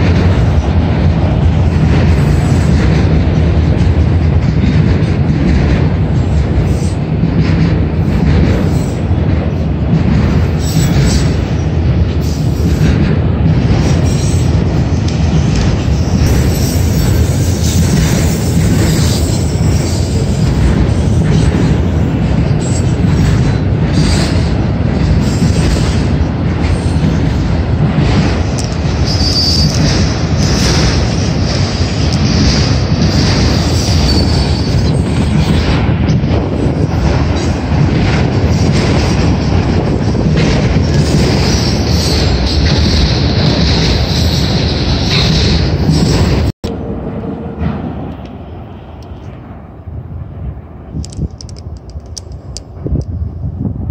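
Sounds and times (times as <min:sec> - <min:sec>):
freight cars rolling on rails: 0:00.0 - 0:53.9.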